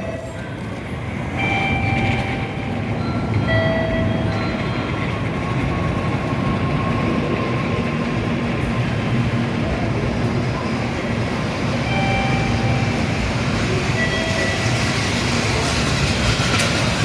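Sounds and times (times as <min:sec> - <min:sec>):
train whine tones: 0:00.0 - 0:08.0, 0:08.6 - 0:17.0
train rushing noise: 0:00.0 - 0:17.0.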